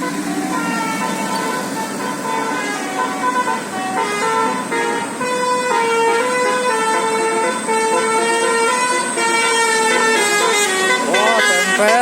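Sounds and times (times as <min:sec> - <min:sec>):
musical bus air horn: 0:00.0 - 0:12.0.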